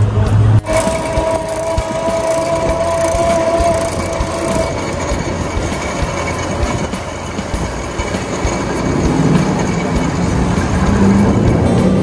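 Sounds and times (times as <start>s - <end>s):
street traffic rumble: 0.0s - 12.0s
high squeal: 0.6s - 12.0s.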